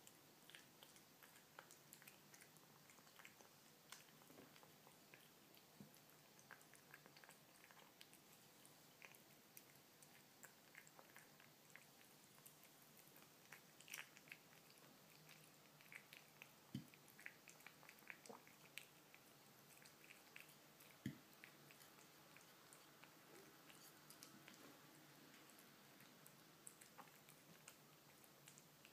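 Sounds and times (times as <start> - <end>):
kitten chewing food: 0.0 - 28.9.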